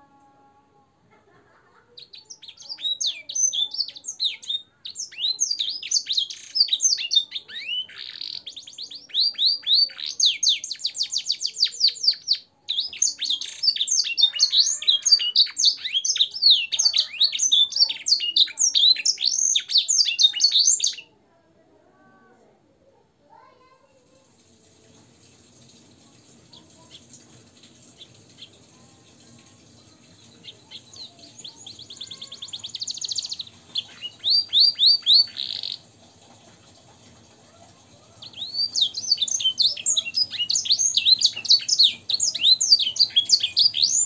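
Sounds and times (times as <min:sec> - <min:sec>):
canary singing trills: 0:01.9 - 0:21.2, 0:26.1 - 0:44.0.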